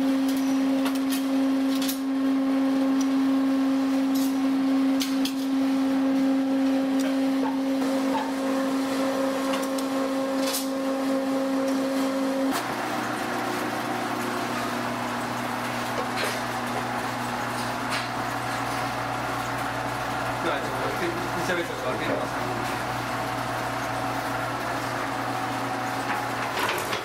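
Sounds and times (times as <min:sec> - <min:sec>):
noodle machine electric hum: 0:00.0 - 0:27.0.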